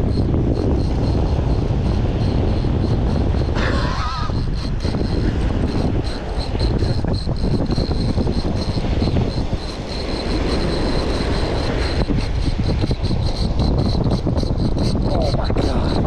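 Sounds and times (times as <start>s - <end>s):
breaking surf: 0.0s - 16.0s
strong wind buffeting microphone: 0.0s - 16.0s.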